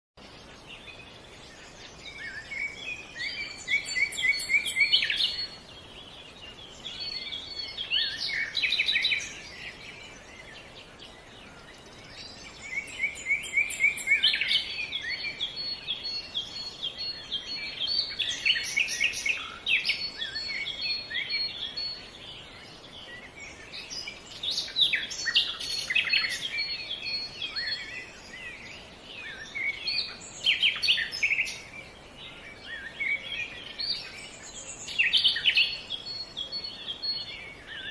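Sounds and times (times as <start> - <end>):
faint steady background hiss: 0.2 - 37.9
songbirds chirping: 0.2 - 37.9.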